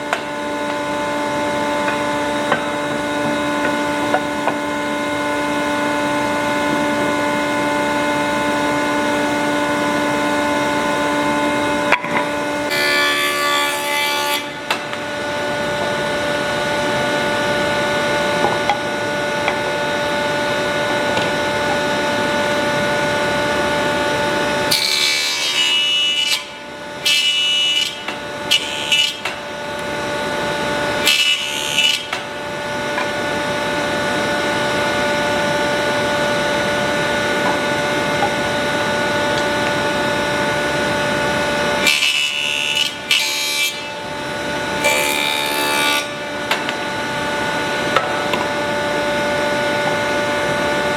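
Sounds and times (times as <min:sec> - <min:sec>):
woodworking power tool humming: 0:00.0 - 0:50.9.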